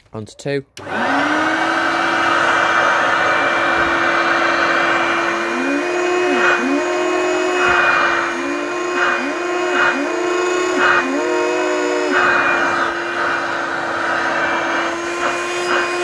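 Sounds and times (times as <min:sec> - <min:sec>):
upright vacuum cleaner running: 0:00.8 - 0:16.0.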